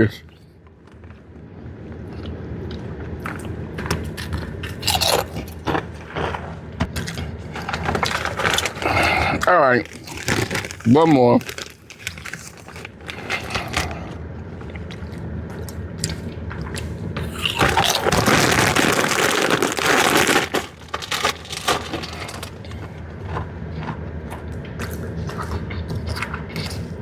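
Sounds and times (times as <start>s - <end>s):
crunching and chewing chips: 0.0s - 27.0s.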